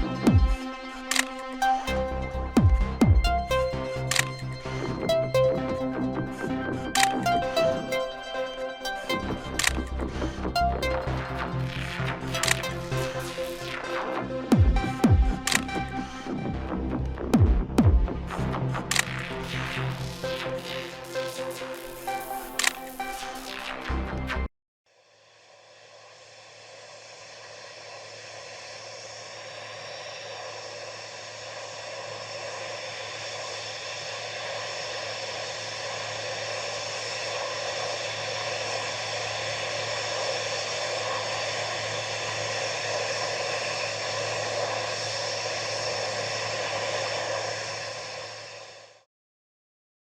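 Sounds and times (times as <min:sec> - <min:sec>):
low hum: 0:00.0 - 0:21.6, 0:25.5 - 0:49.0.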